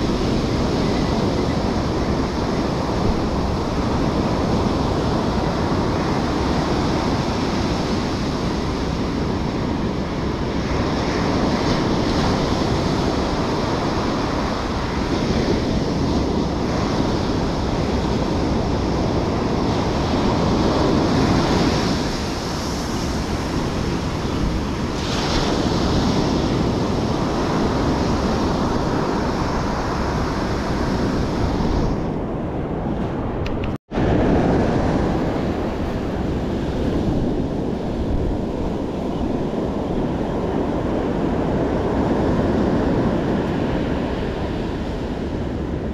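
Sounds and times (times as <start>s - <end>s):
ocean surf washing: 0.0s - 45.9s
wind buffeting microphone: 0.0s - 45.9s.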